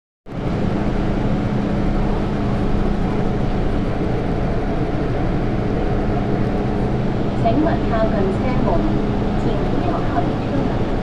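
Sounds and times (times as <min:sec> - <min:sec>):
train carriage rumble: 0:00.3 - 0:11.0.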